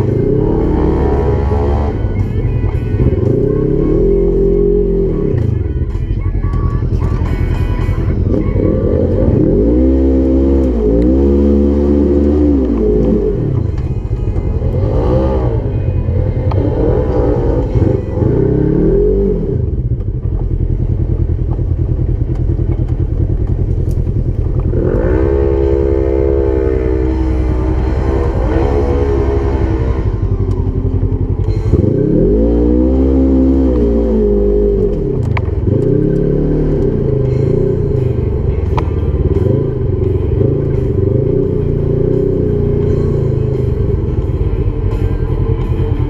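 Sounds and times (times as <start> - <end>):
engine running and revving: 0.0 - 46.0.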